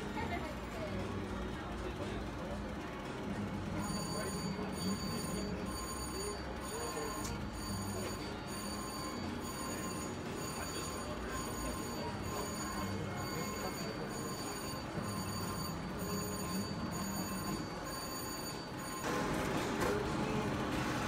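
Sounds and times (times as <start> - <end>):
slot machines ringing and chiming: 0.5 - 21.0.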